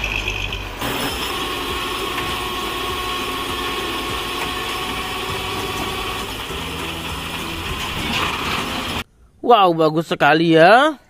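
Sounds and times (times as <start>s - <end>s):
truck engine running: 0.0s - 9.0s.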